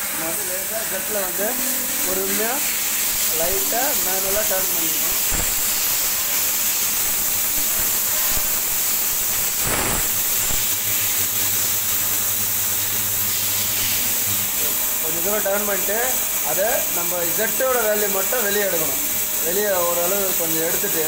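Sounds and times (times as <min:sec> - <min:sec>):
lathe chuck spinning hiss: 0:00.0 - 0:21.0.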